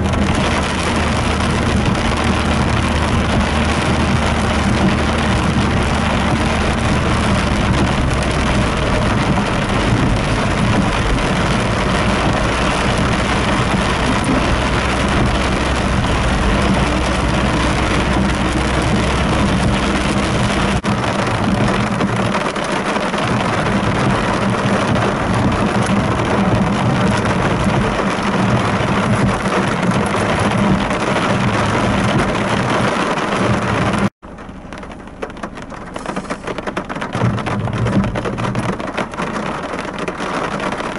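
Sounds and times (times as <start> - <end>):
car engine hum: 0.0 - 40.9
heavy rain on car roof: 0.0 - 40.9
patter of rain: 0.0 - 40.9
tyres on wet road: 0.0 - 40.9.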